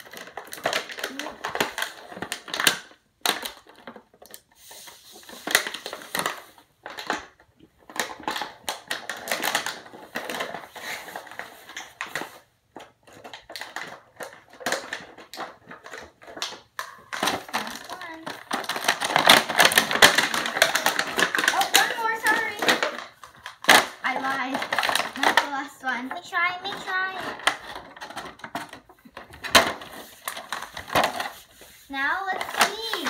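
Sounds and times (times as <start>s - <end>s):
plastic and cardboard crackling: 0.0s - 33.0s.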